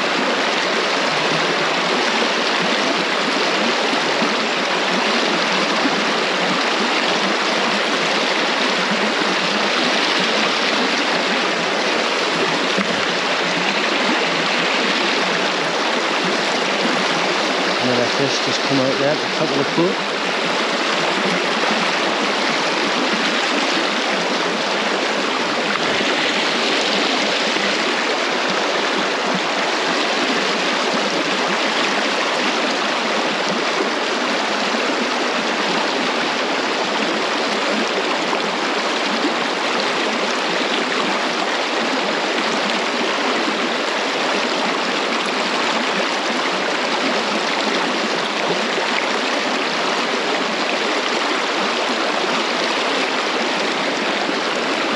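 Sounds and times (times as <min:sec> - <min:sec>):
river water rushing over rocks: 0:00.0 - 0:54.9.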